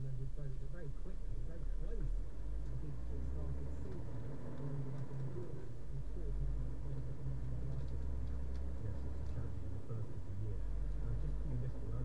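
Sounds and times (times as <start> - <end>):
tyres on road: 0.0 - 12.0
vehicle engine rumble: 0.0 - 12.0.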